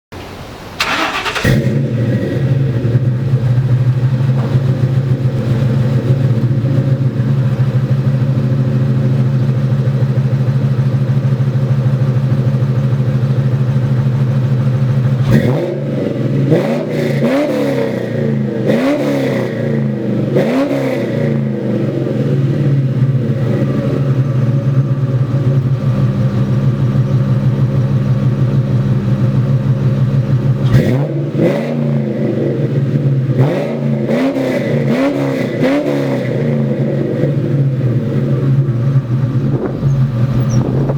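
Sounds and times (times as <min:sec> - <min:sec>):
car engine idling and revving: 0:00.8 - 0:40.9.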